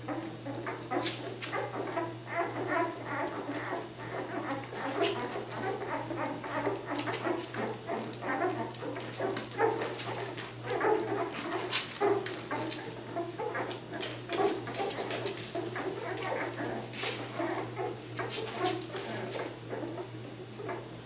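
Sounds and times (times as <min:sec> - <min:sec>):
puppies squeaking and whimpering: 0:00.0 - 0:21.0.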